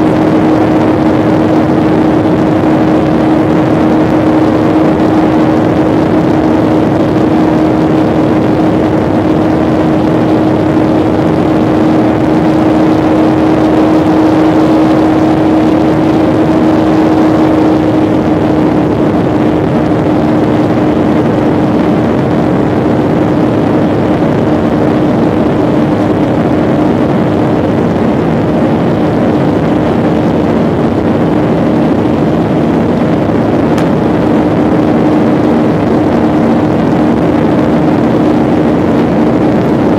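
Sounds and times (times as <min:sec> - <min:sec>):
airliner engine rumble in cabin: 0:00.0 - 0:39.9
lower engine drone: 0:00.0 - 0:39.9.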